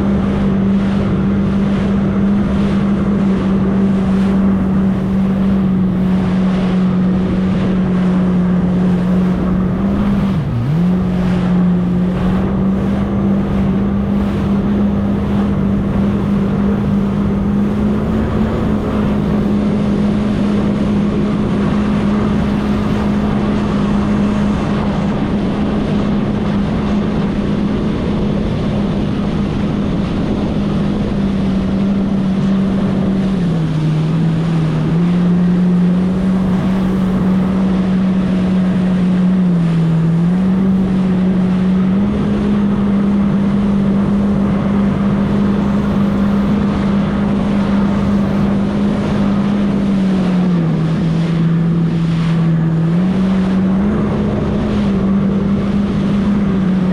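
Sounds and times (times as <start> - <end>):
jet ski engine running: 0.0 - 56.9
wind buffeting microphone: 0.0 - 56.9.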